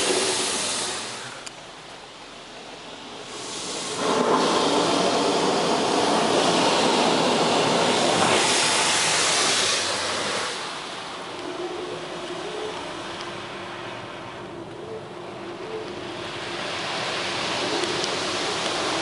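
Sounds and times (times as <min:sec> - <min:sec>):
car wash water jets spraying: 0:00.0 - 0:19.0.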